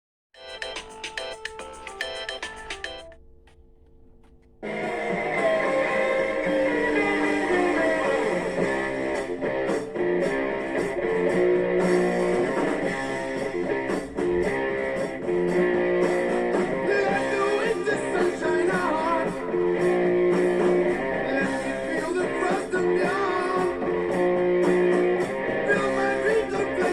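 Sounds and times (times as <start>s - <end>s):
guitar-led music: 0.4s - 3.2s, 4.2s - 26.9s.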